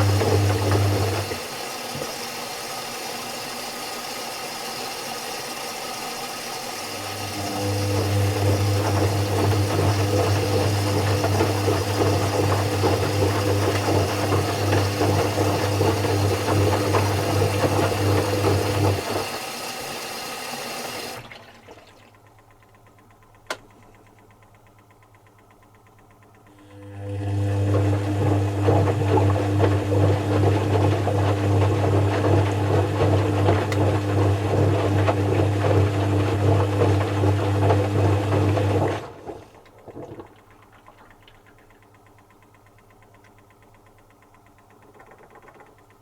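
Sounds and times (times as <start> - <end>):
washing machine water noise: 0.0 - 46.0.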